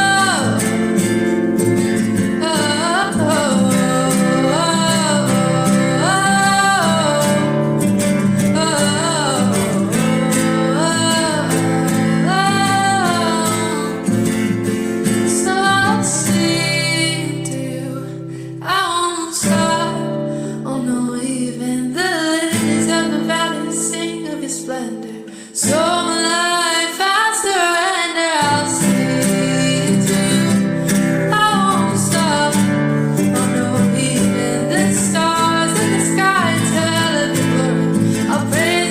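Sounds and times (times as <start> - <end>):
woman singing worship song: 0.0 - 1.1, 2.1 - 38.9
guitar accompaniment: 0.0 - 38.9.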